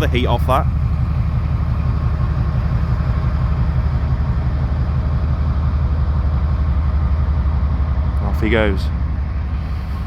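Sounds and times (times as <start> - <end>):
diesel locomotive engine rumbling: 0.0 - 10.0.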